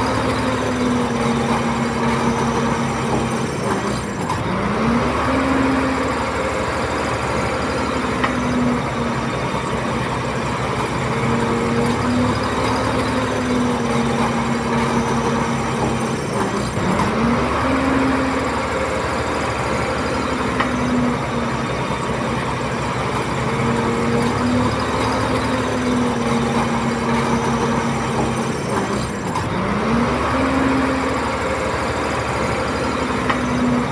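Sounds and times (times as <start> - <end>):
bulldozer diesel engine under load: 0.0 - 33.9.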